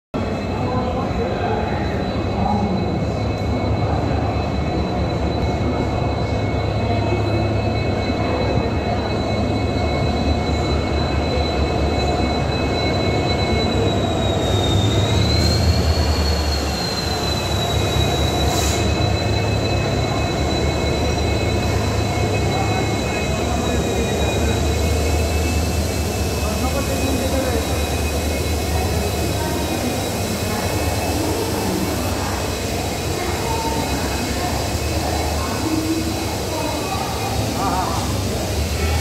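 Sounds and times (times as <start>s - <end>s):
diesel locomotive engine rumble: 0.2s - 39.0s.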